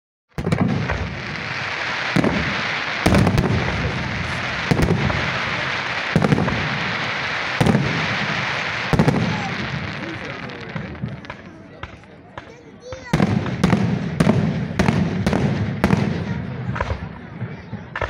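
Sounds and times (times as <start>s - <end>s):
fireworks bangs: 0.3s - 18.0s
fireworks crackling hiss: 0.4s - 17.0s.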